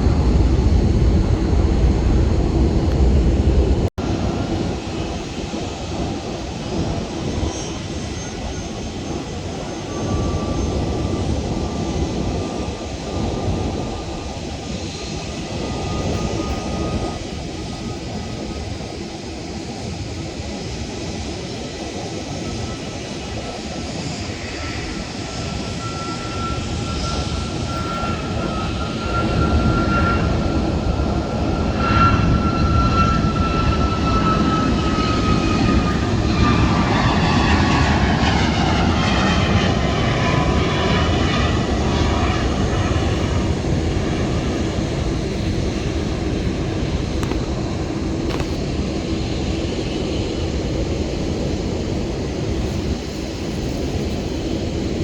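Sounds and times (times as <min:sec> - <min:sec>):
jet airliner passing by: 0:00.0 - 0:55.0.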